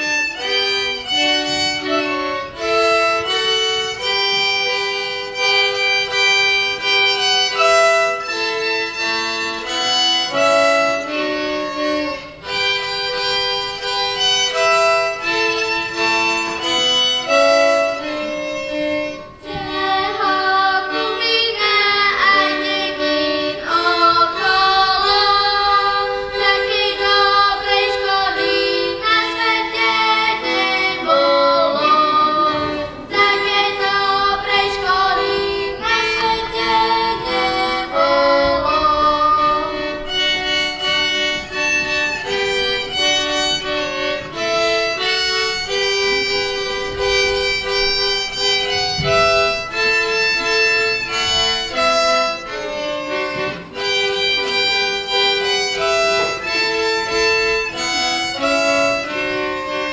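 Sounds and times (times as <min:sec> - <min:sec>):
violin melody: 0:00.0 - 0:59.9.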